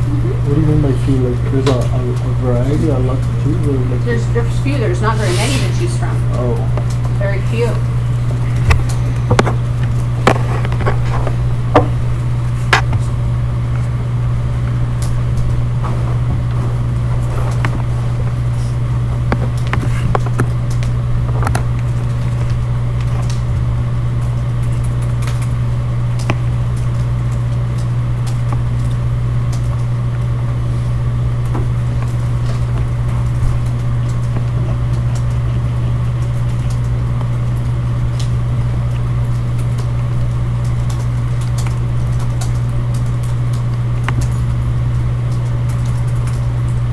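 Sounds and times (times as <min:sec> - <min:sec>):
loud steady low hum: 0:00.0 - 0:46.9.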